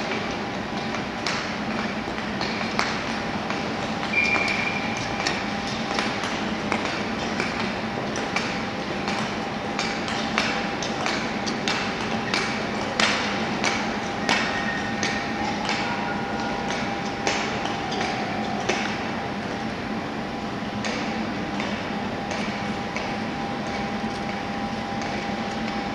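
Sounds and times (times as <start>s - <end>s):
ice rink hall hum: 0.0s - 25.9s.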